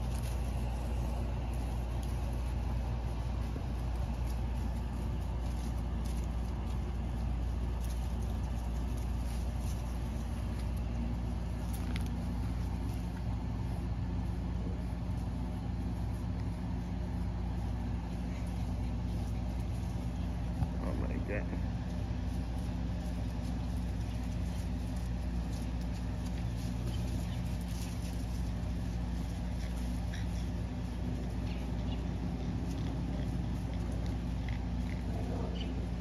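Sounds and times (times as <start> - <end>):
machinery humming: 0.0 - 36.0.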